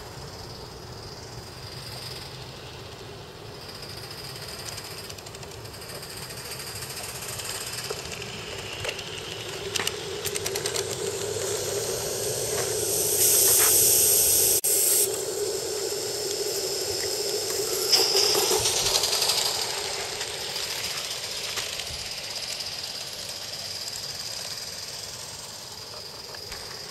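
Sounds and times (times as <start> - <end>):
model steam locomotive running: 0.0 - 26.9
steam hissing: 0.0 - 26.9.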